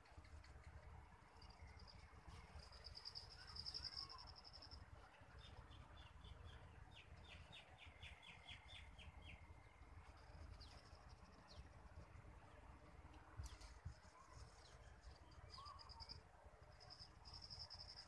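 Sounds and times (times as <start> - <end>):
faint birdsong: 0.0 - 18.0
low steady rumble: 0.0 - 18.0.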